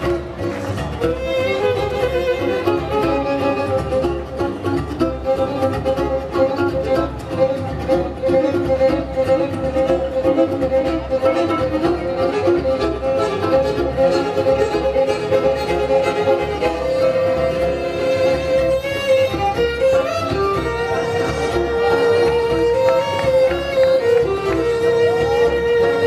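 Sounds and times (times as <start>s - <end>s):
bowed fiddle melody: 0.0s - 26.0s.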